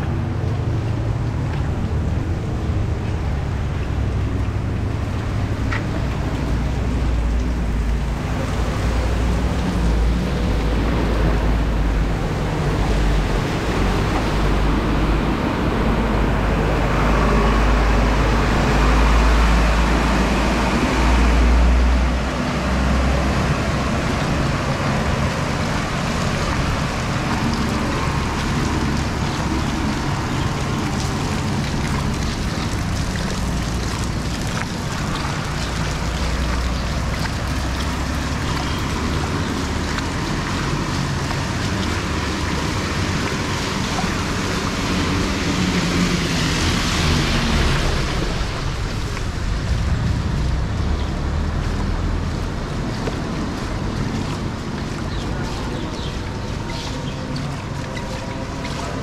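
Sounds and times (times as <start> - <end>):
steady rain: 0.0 - 59.0
tyres sloshing through floodwater: 0.0 - 59.0
wind rumbling on microphone: 0.0 - 59.0.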